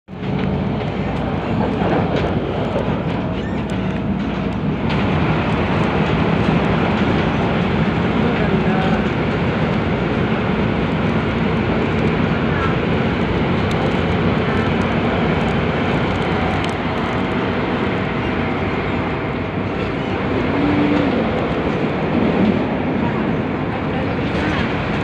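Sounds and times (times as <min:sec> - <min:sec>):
metro train running inside carriage: 0:00.1 - 0:25.0.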